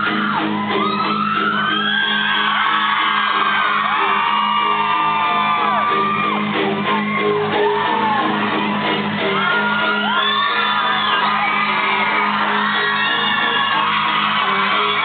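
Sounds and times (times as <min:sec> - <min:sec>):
fans screaming and whooping: 0:00.0 - 0:15.0.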